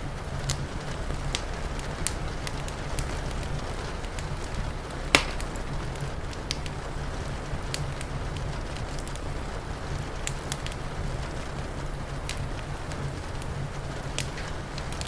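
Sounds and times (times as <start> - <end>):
low rumble: 0.0 - 15.0
rain hissing: 0.0 - 15.0
wood fire crackling: 0.0 - 15.0.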